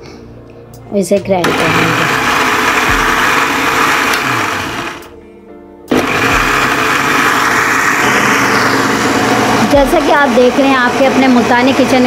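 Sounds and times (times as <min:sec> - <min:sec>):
blender motor grinding: 0:01.4 - 0:05.1, 0:05.9 - 0:12.0.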